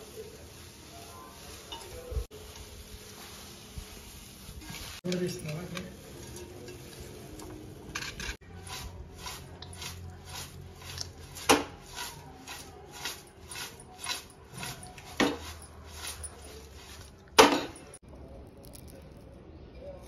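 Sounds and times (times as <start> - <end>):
flattened rice rustling in a pot: 0.0 - 18.0.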